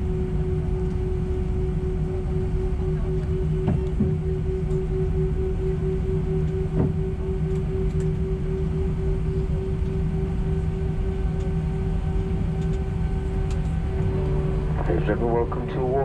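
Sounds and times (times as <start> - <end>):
aircraft engines and air conditioning rumble: 0.0 - 16.0
steady humming tone: 0.0 - 16.0.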